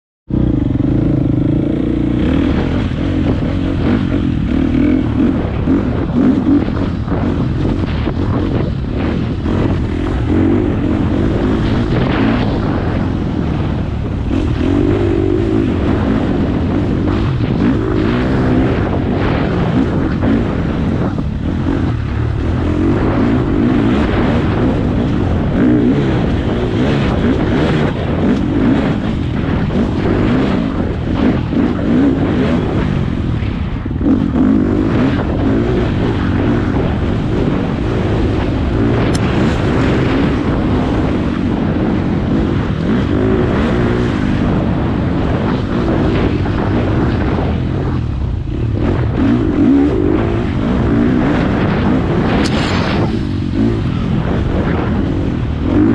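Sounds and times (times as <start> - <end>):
dirt bike engine revving: 0.3 - 55.9.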